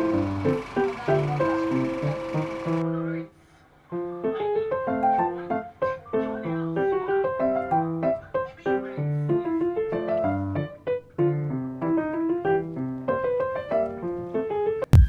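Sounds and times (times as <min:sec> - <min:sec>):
gentle piano music: 0:00.0 - 0:03.3, 0:03.9 - 0:14.9.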